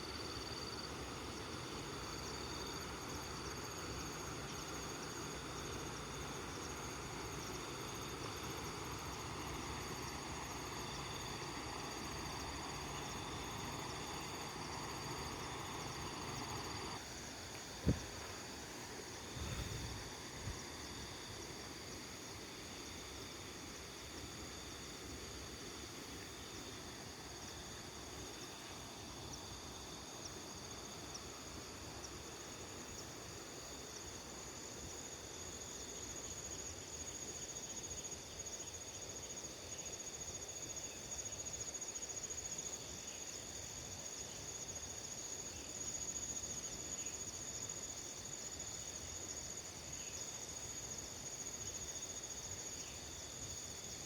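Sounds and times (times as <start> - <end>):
crickets trilling: 0.0 - 23.2, 25.4 - 54.0.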